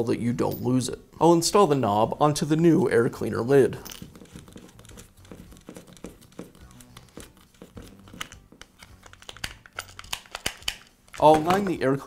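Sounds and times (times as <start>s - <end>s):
soft background music: 1.6s - 12.0s.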